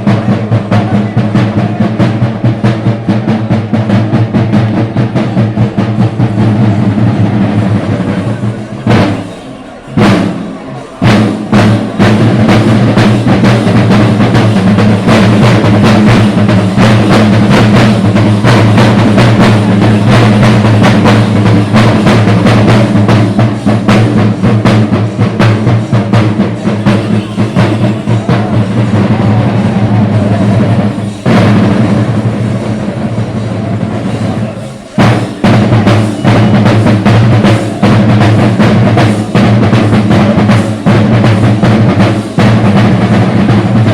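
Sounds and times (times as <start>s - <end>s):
drums beaten in a fast roll: 0.0s - 43.9s.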